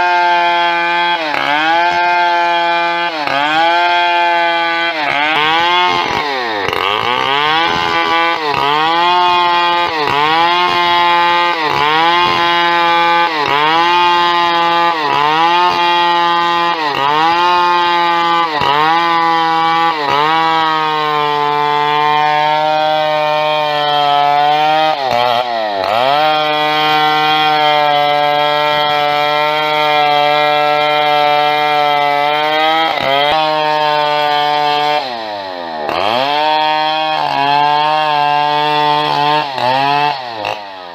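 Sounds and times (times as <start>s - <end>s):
chainsaw cutting timber: 0.0s - 40.9s.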